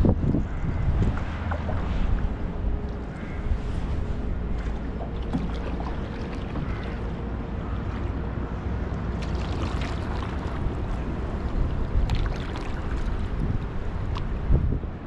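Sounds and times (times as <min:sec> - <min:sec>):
river water sounds: 0:00.0 - 0:15.0
wind rumbling on microphone: 0:00.0 - 0:15.0
light water splashes: 0:00.8 - 0:14.8.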